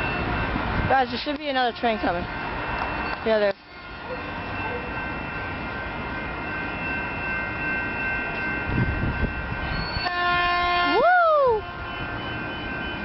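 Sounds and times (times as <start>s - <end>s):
train rumble and rail noise: 0.0s - 13.0s.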